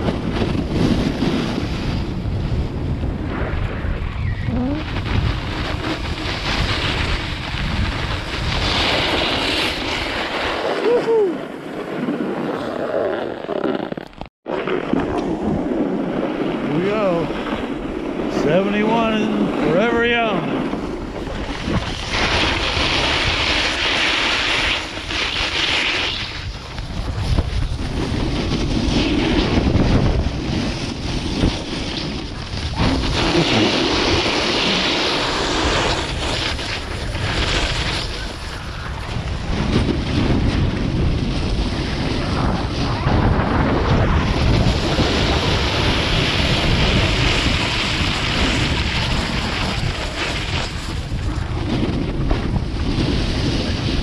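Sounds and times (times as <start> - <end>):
wind buffeting microphone: 0.0 - 12.5, 14.6 - 25.5, 26.1 - 54.0
snowboard scraping over snow: 0.0 - 54.0.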